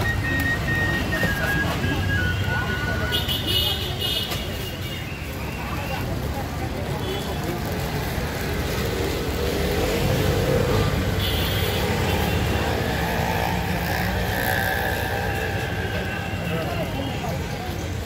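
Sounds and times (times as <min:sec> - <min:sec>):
low rumble of street traffic: 0:00.0 - 0:18.0.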